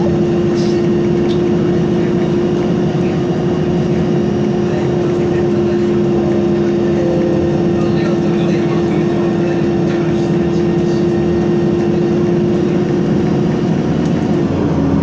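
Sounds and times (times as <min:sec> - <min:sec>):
bus engine and road noise: 0:00.0 - 0:15.0
droning hum: 0:00.0 - 0:15.0.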